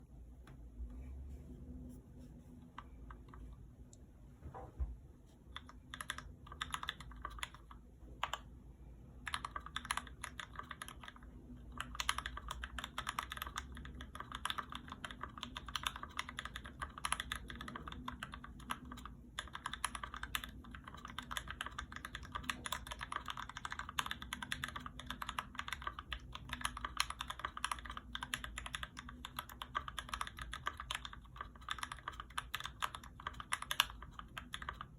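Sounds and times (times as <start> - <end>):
typing on mechanical keyboard: 5.5 - 8.5, 9.2 - 34.9.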